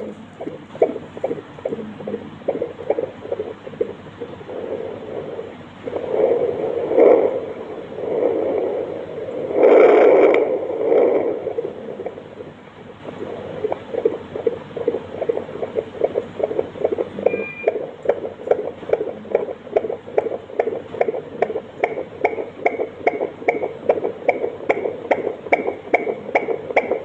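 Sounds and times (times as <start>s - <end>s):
doppler fetal heartbeat: 0.0s - 27.0s.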